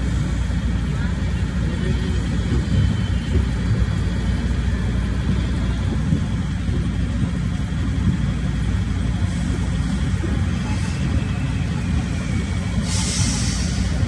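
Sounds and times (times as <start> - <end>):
ride train rumbling on track: 0.0 - 14.0.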